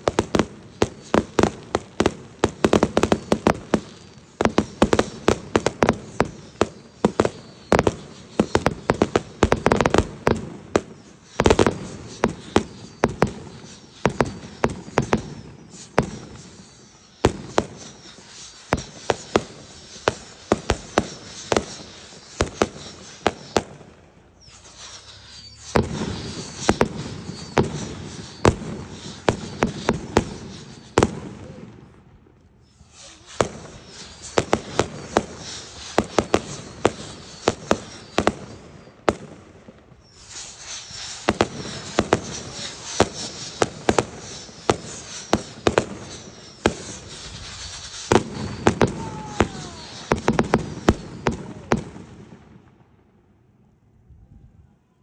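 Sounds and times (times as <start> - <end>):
fireworks bursting: 0.0 - 53.8.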